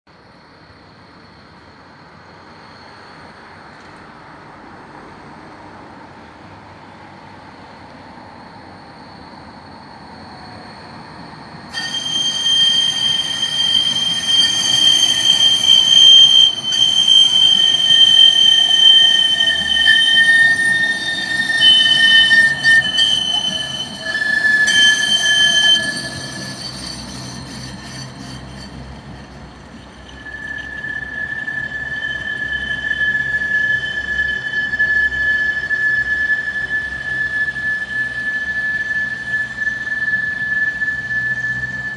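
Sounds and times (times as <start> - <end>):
tram wheels squealing on rails: 0.3 - 41.9.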